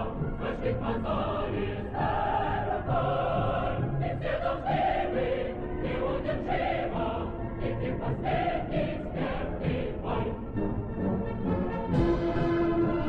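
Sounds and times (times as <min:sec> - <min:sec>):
choir singing: 0:00.0 - 0:13.0
musical accompaniment: 0:00.0 - 0:13.0.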